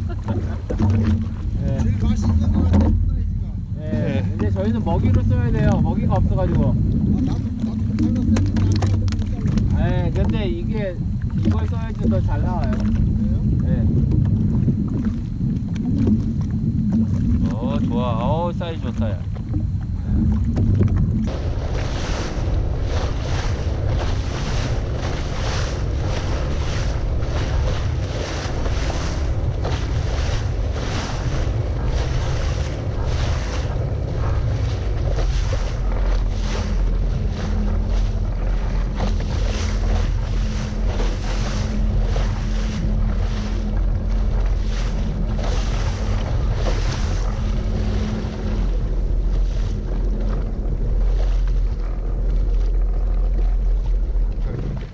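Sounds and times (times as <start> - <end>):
low engine drone: 0.0 - 54.9
water slapping against hull: 0.0 - 54.9
wind buffeting microphone: 0.0 - 54.9.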